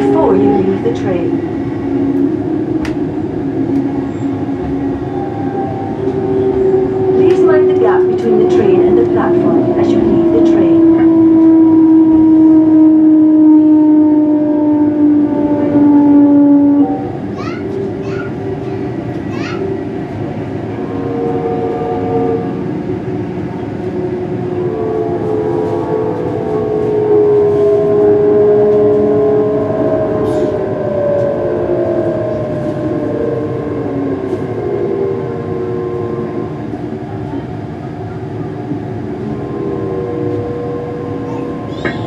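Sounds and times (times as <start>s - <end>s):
traction motors whining: 0.0s - 14.3s, 14.9s - 42.0s
train wheels rumbling on rail: 0.0s - 42.0s.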